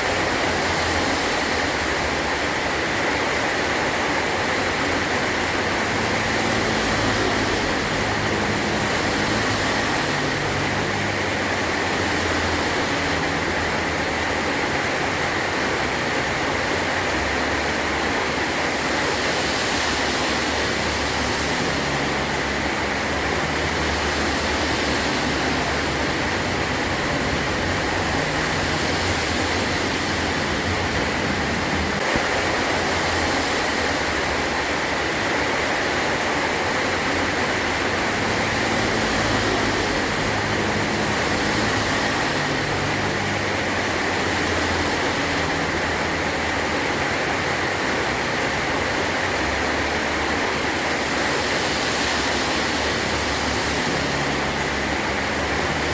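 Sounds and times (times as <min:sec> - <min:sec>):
heavy rain on a metal roof: 0:00.0 - 0:55.9.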